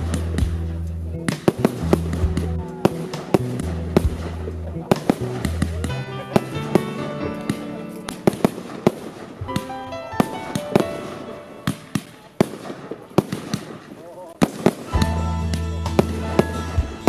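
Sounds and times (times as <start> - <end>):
music of held notes: 0.0 - 13.8, 14.4 - 17.0
fireworks bangs and crackles: 0.0 - 17.0.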